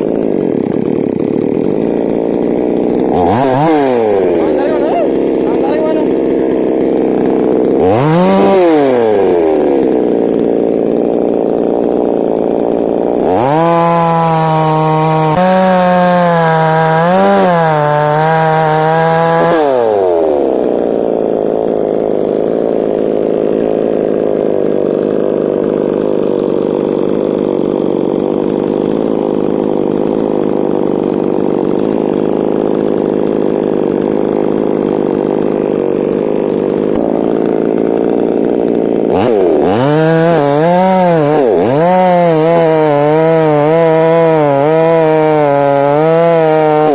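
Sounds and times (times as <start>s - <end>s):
chainsaw engine idling and revving: 0.0s - 46.9s.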